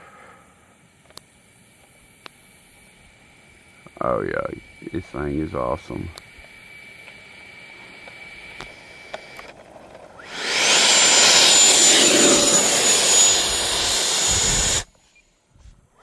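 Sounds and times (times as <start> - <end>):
electric ducted fan whine: 0.4 - 16.0.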